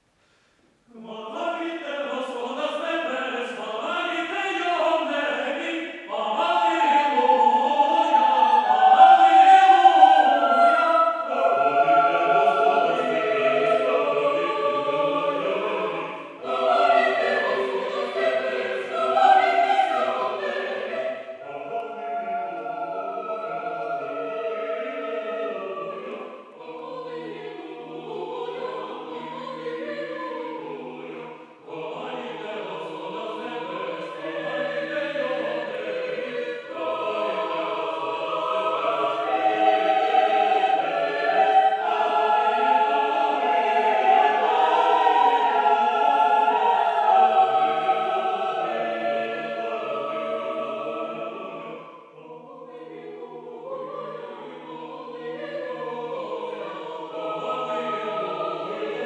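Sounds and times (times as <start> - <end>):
choir singing a cappella: 0.9 - 59.0.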